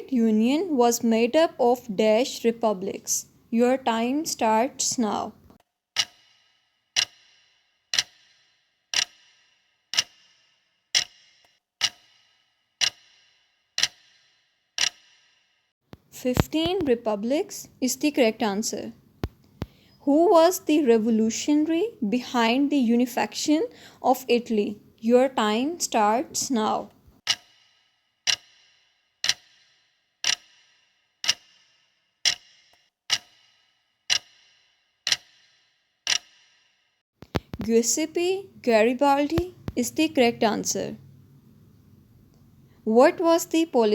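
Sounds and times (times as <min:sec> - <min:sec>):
clock ticks with ringing tail: 0:00.0 - 0:19.4, 0:20.4 - 0:38.2, 0:38.8 - 0:40.6.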